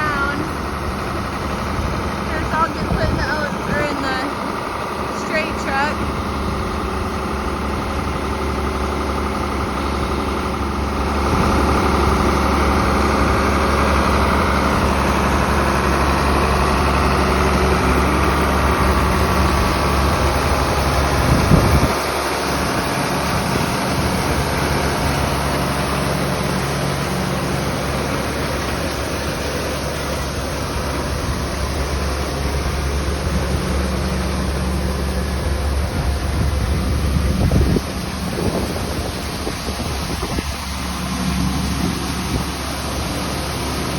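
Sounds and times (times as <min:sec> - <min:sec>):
tractor diesel engine running: 0:00.0 - 0:43.9
grain rushing: 0:08.3 - 0:43.9.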